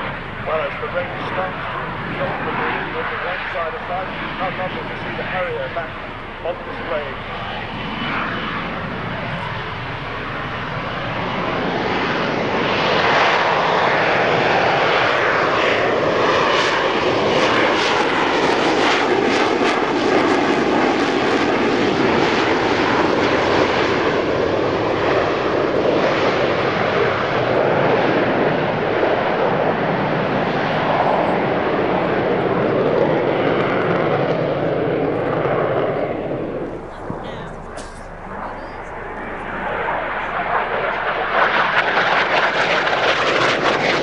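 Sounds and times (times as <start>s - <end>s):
jet engine roaring overhead: 0.0s - 44.0s.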